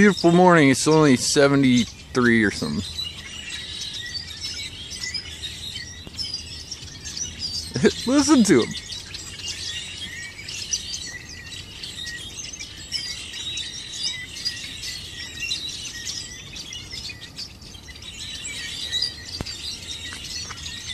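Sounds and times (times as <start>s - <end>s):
flock of songbirds chirping: 0.0s - 20.9s.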